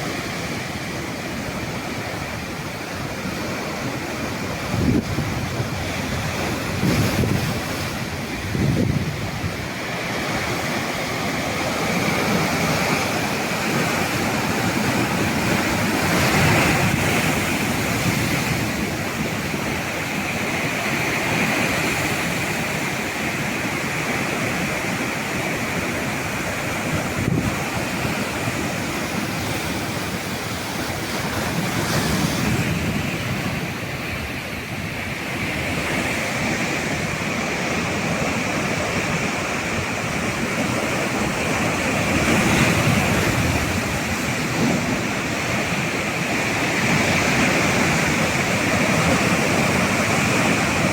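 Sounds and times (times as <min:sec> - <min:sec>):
sea waves breaking on shore: 0:00.0 - 0:50.9
wind on microphone: 0:00.0 - 0:50.9.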